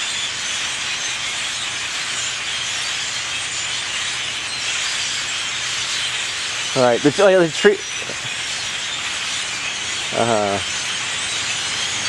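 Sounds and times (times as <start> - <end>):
flock of birds calling: 0.0 - 12.0.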